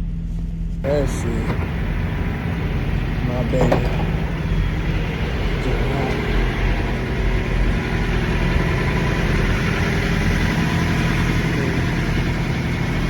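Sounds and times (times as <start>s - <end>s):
truck engine idling: 0.8s - 13.0s.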